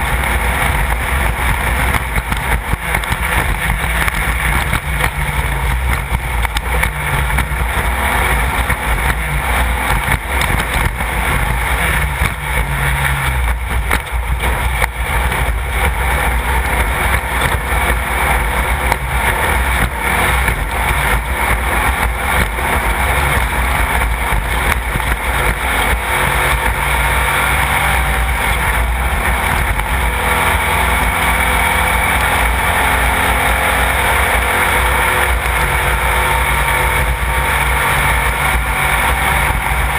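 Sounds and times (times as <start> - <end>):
constant noisy rush: 0.0 - 39.9
race car engine running hard: 0.0 - 39.9.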